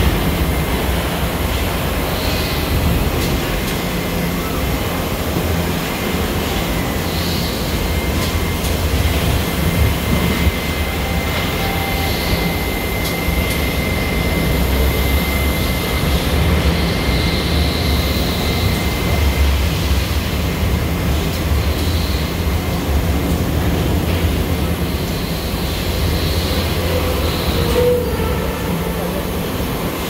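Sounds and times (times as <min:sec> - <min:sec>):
low machine rumble: 0:00.0 - 0:30.0
thin high machine whine: 0:00.0 - 0:30.0.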